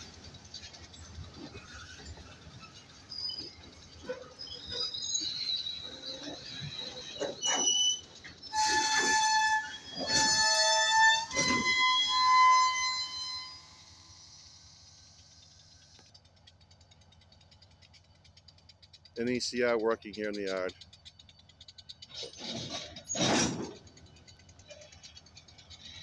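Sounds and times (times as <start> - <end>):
train wheels squealing on rails: 0.0 - 16.0, 19.2 - 26.0.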